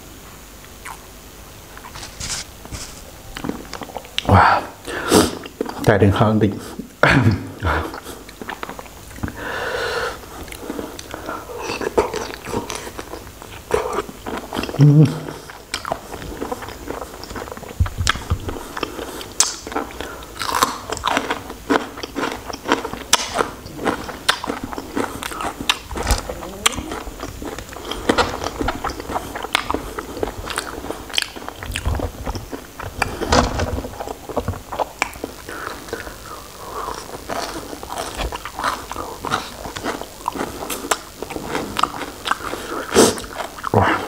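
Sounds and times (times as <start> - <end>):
chewing raw shrimp: 7.7 - 9.4, 10.2 - 44.0.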